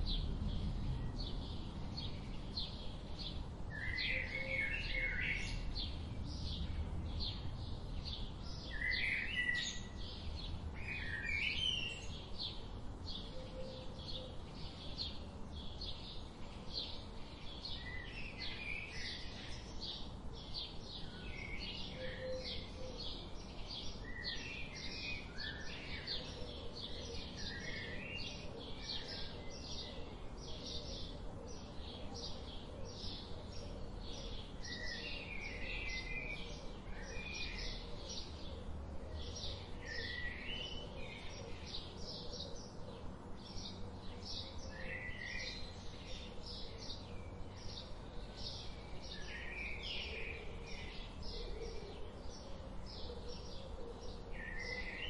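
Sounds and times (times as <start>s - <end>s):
low background hiss: 0.0s - 55.0s.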